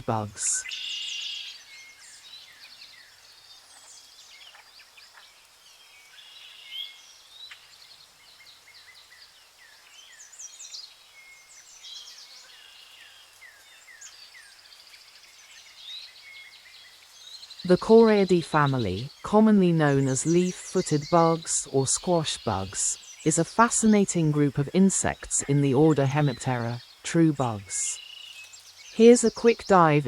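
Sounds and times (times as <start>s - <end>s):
light background hiss: 0.0s - 30.0s
small birds chirping: 0.0s - 30.0s.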